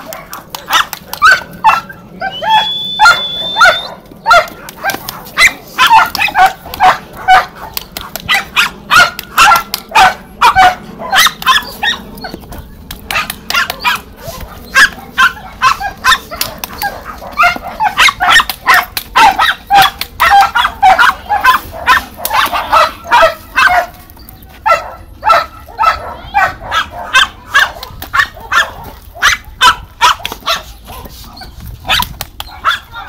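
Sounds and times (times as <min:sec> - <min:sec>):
small dog yapping: 0:00.0 - 0:01.9, 0:02.5 - 0:12.4, 0:13.1 - 0:23.9, 0:24.7 - 0:33.0.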